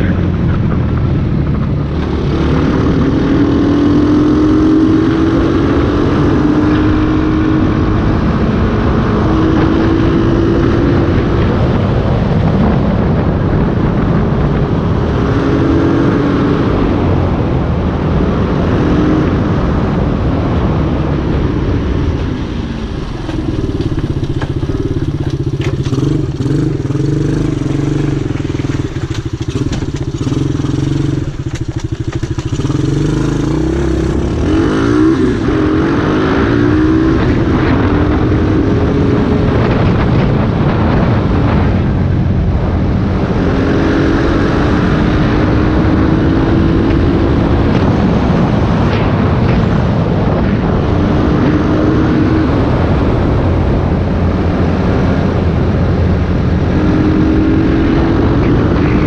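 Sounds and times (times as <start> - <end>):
atv engine revving: 0.0 - 12.5, 13.9 - 41.9, 42.5 - 59.0.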